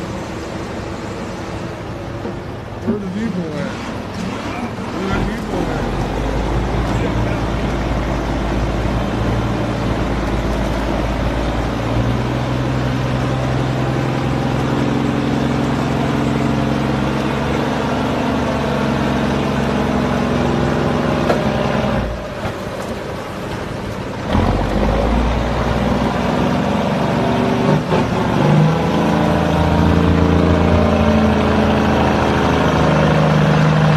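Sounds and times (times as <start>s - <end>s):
heavy diesel engines under load: 0.0s - 33.9s.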